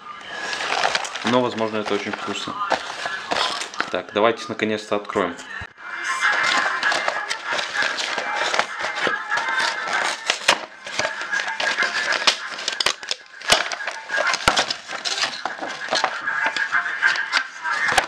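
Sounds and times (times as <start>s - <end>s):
background music: 0.0s - 18.0s
packaging rustling and crinkling: 0.2s - 4.0s, 6.2s - 18.0s.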